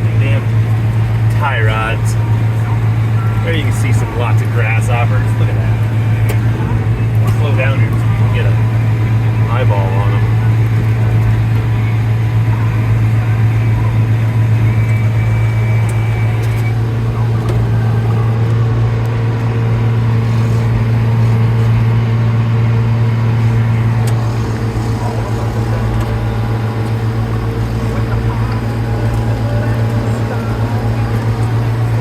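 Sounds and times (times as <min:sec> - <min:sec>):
tractor engine droning: 0:00.0 - 0:32.0.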